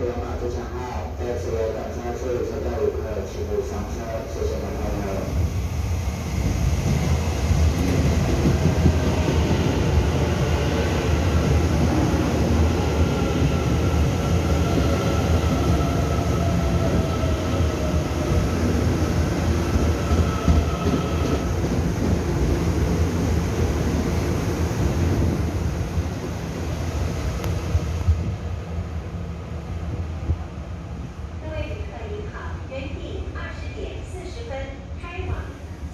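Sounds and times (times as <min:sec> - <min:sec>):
train wheels rumbling: 0:03.6 - 0:32.4.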